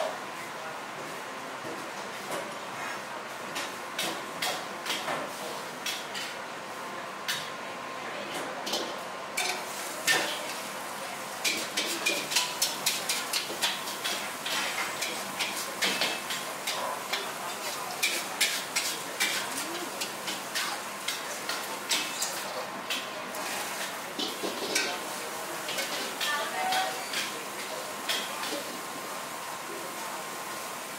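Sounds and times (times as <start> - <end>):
frying hiss: 0.0 - 30.9.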